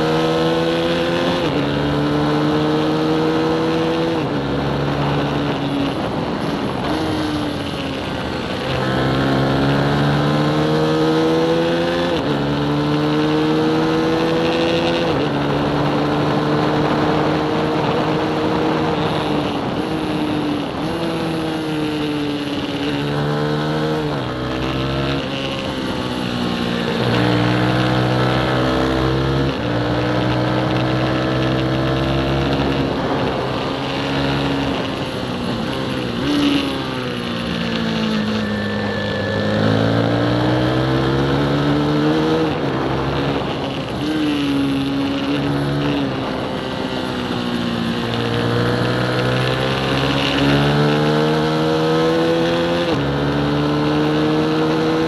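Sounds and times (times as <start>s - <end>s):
small motorcycle engine racing: 0.0s - 55.0s.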